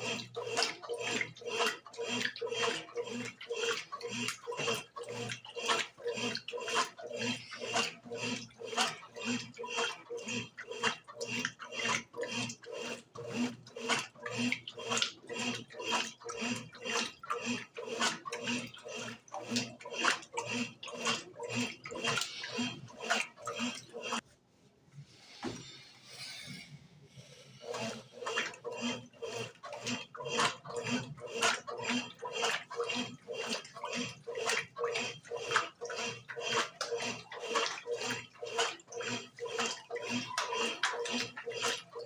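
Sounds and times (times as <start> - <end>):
washing machine sloshing and churning: 0.0 - 42.0.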